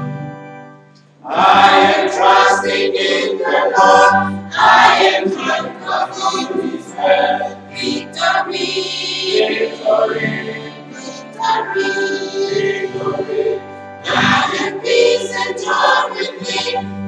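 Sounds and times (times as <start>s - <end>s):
group singing a hymn: 1.2s - 17.0s.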